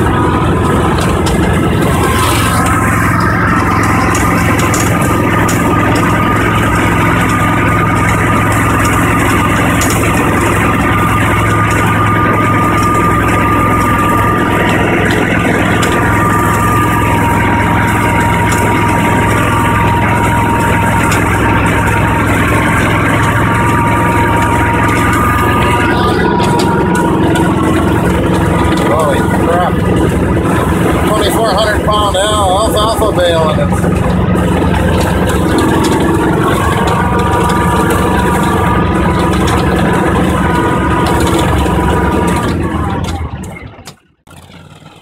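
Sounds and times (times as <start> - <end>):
high whine: 0.0 - 44.2
atv engine running: 0.0 - 45.0.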